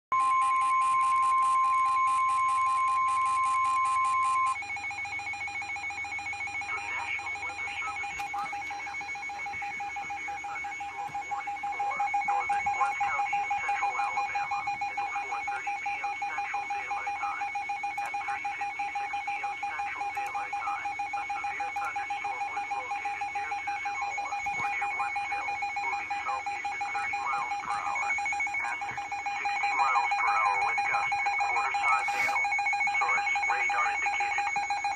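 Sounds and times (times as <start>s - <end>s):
alarm ringing: 0.1s - 34.9s
emergency alert tone: 0.1s - 34.9s.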